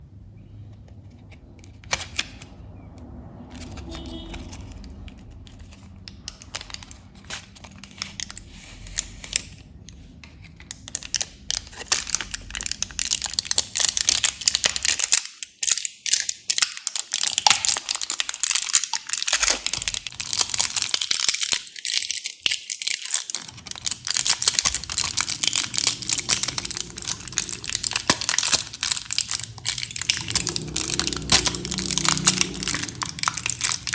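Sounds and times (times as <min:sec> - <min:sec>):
plastic wrappers crinkling: 0:03.6 - 0:33.9.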